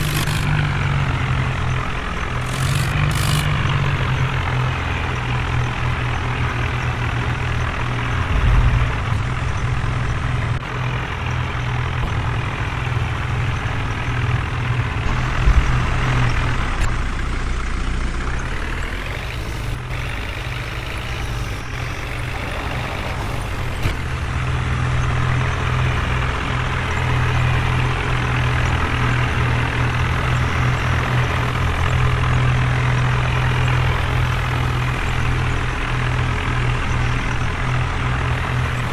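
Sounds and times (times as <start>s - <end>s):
diesel engines straining: 0.0s - 38.9s.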